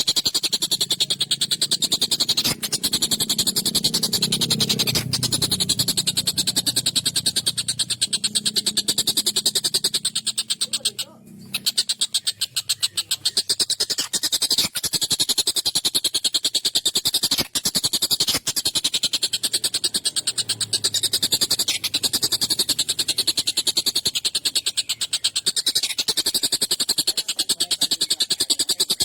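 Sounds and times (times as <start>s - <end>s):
kingfisher rattling chatter: 0.0s - 29.0s.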